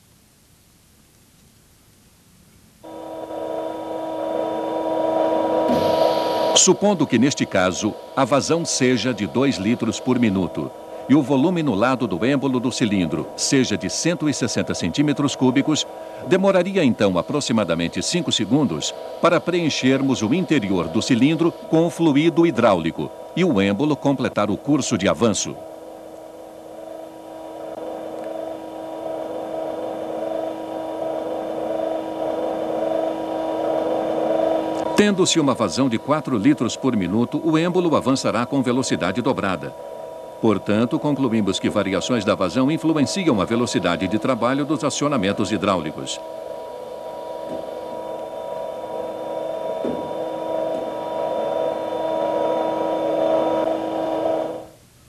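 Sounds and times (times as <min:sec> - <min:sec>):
hydraulic power unit humming: 0:02.6 - 0:55.0.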